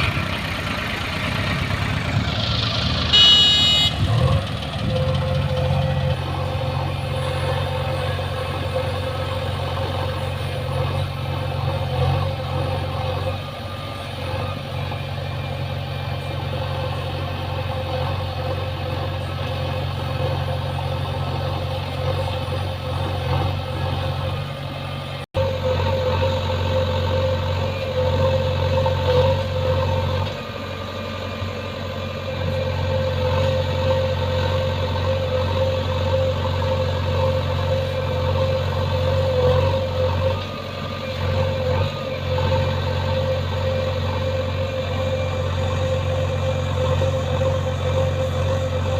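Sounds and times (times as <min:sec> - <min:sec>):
engine idling: 0:00.0 - 0:48.9.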